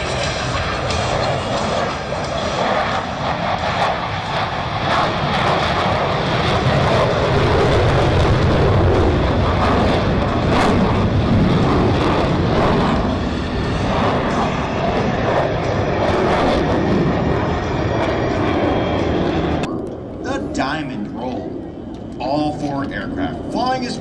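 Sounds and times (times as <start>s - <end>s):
jet aircraft flying overhead: 0.0s - 24.0s.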